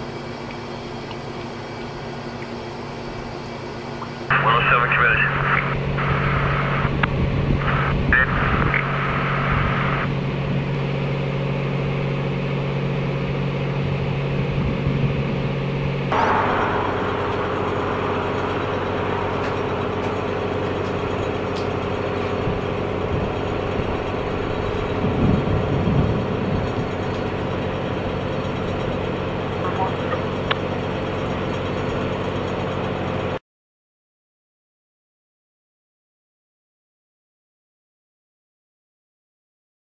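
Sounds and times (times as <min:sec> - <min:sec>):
vehicle engine idling: 0:00.0 - 0:33.4.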